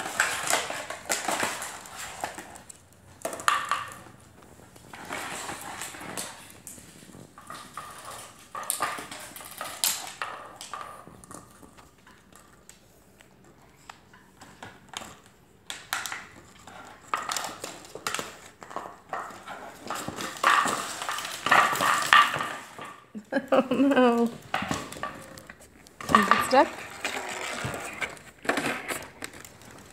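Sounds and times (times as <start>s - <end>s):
plastic bottle crinkling: 0.0s - 12.7s, 14.4s - 29.9s
puppies biting at plastic bottle: 0.0s - 23.2s, 23.8s - 29.9s.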